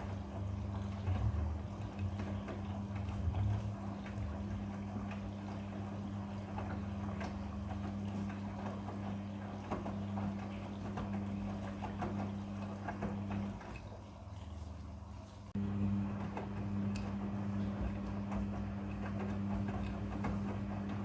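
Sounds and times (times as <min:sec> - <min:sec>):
washing machine motor humming: 0:00.0 - 0:21.0
water sloshing: 0:00.0 - 0:21.0.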